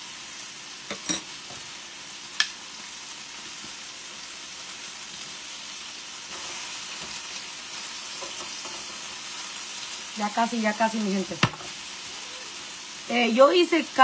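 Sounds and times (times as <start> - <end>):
chicken wings sizzling in oil: 0.0 - 14.0.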